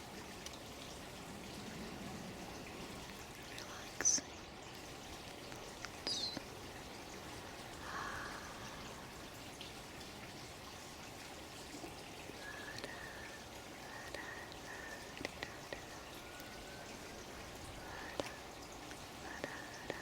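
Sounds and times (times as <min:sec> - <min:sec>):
water running and trickling: 0:00.0 - 0:20.0.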